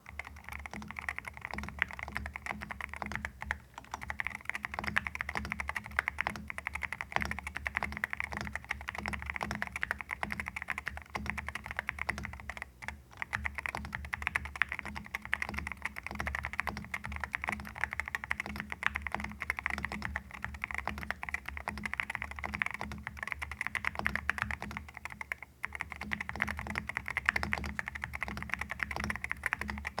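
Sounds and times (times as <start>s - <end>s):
fast typing on mechanical keyboard: 0.0s - 30.0s.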